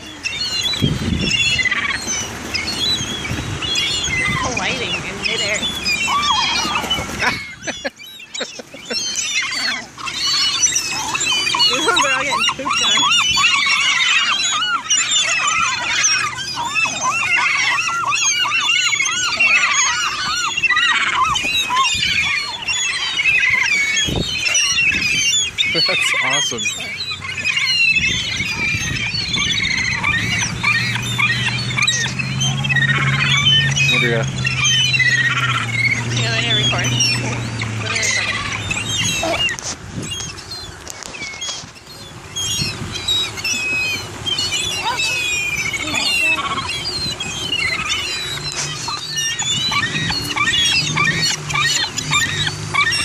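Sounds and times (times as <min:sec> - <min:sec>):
gulls calling: 0:00.0 - 0:53.0.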